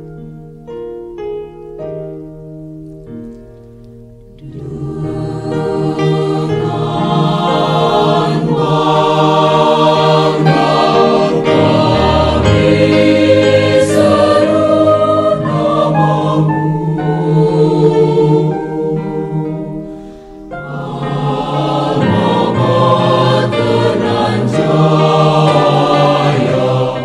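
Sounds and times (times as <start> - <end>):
choir singing held chords: 4.4 - 27.0.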